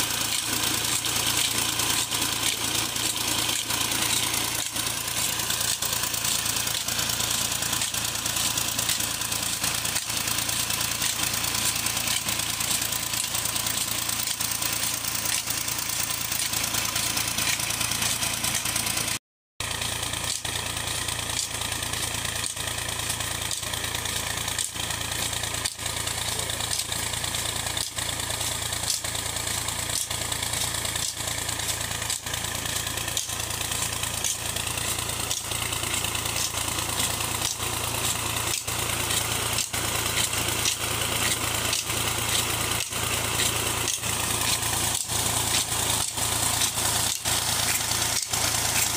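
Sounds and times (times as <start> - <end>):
diesel engine running under load: 0.0 - 48.9
water rushing from pipe: 0.0 - 48.9.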